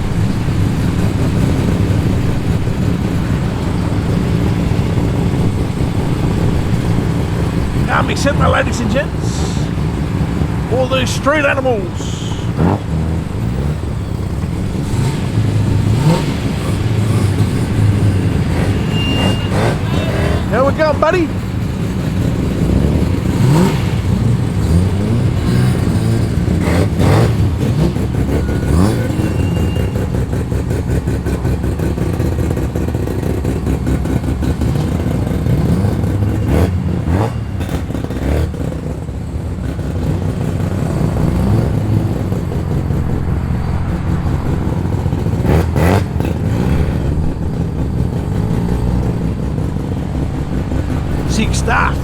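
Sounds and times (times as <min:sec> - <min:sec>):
engine revs: 0:00.0 - 0:52.0
performance car engines rumbling: 0:00.0 - 0:52.0.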